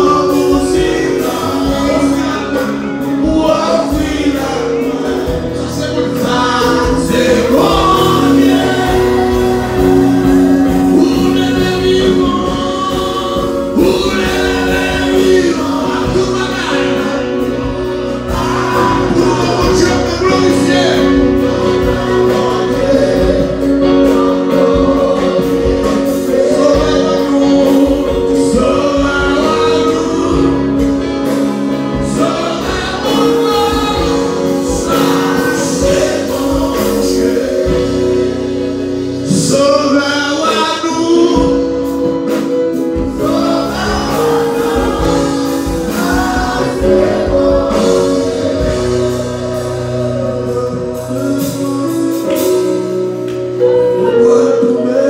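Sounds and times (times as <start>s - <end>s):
choir singing: 0.0s - 55.0s
held accompaniment chords: 0.0s - 55.0s.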